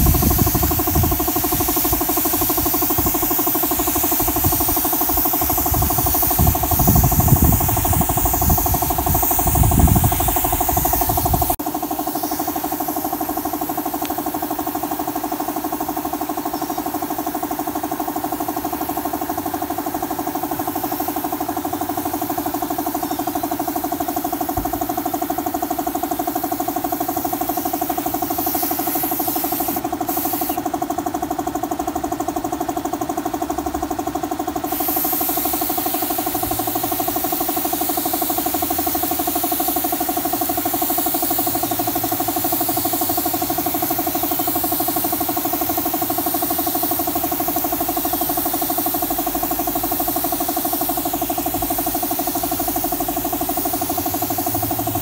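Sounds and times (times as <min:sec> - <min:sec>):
spray gun air hissing: 0:00.0 - 0:32.2, 0:32.9 - 0:55.0
air compressor humming: 0:00.0 - 0:55.0.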